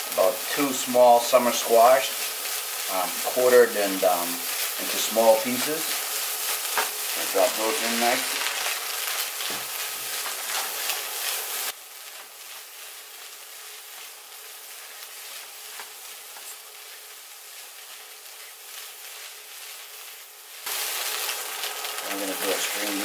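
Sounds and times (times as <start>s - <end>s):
vegetables sizzling in skillet: 0.0s - 23.0s
spatula stirring: 1.7s - 22.0s.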